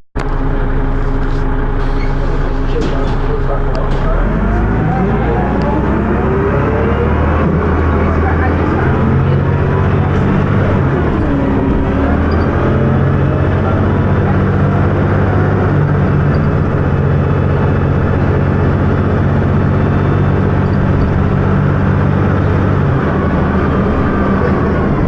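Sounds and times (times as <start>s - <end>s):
bus engine droning: 0.2s - 25.0s.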